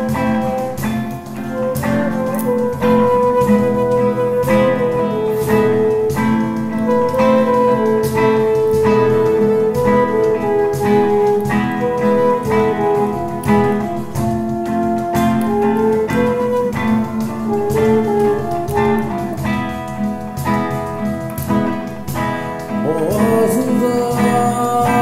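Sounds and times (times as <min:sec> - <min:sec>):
cajon beat: 0:00.0 - 0:25.0
classical guitar: 0:00.0 - 0:25.0
flute melody: 0:00.0 - 0:25.0.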